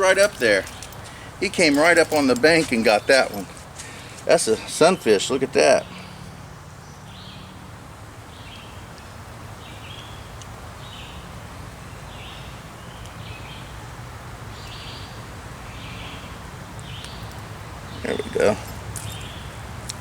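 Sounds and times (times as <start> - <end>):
bird chirping: 0.0 - 7.7, 8.3 - 13.8, 14.5 - 19.6.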